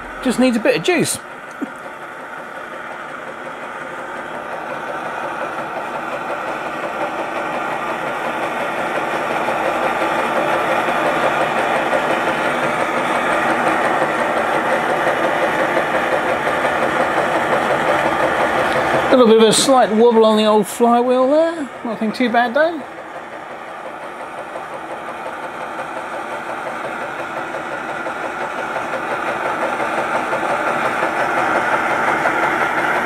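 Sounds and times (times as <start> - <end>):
engine mechanical clatter: 0.0 - 33.0
gas burner hissing: 0.0 - 33.0.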